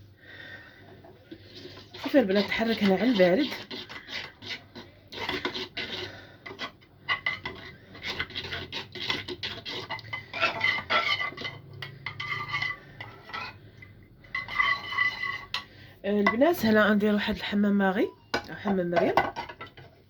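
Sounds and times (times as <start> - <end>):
spoon scraping a pan: 0.8 - 20.0.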